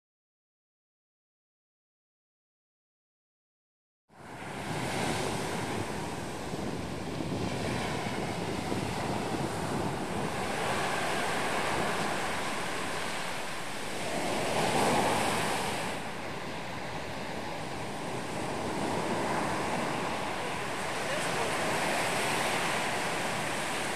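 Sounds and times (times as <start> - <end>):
wind buffeting microphone: 4.2 - 23.9
surf breaking on rocky shore: 4.4 - 23.9.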